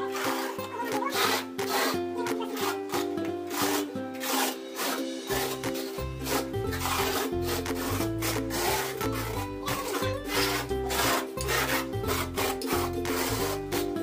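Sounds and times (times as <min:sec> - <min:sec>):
background music: 0:00.0 - 0:14.0
trowel scraping mortar on concrete: 0:00.0 - 0:14.0.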